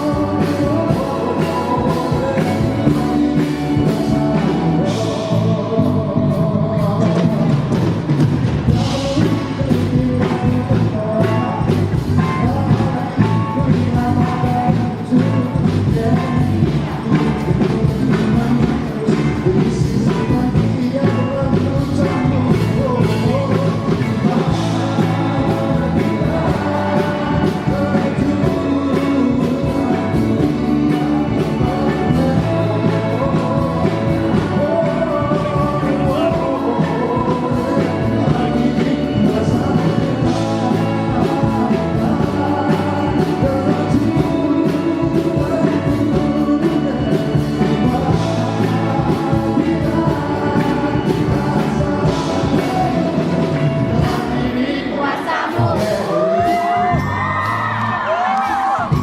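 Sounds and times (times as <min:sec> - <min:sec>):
rock song with singing: 0:00.0 - 0:59.0.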